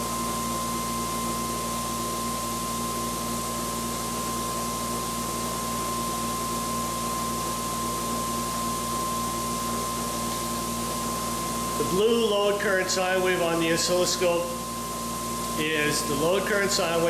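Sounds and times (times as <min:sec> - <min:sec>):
generator hum with high whine: 0:00.0 - 0:17.0.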